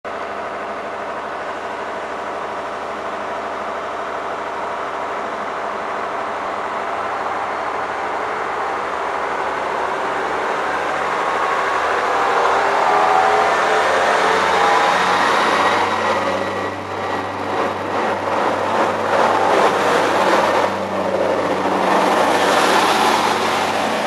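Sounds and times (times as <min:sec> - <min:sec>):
train diesel engines: 0:00.1 - 0:24.0.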